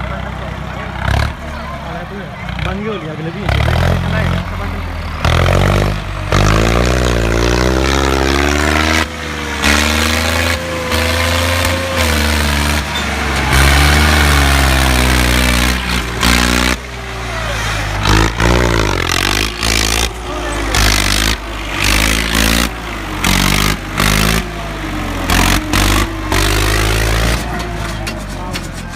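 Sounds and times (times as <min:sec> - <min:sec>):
tractor engine revving: 0:00.0 - 0:28.9.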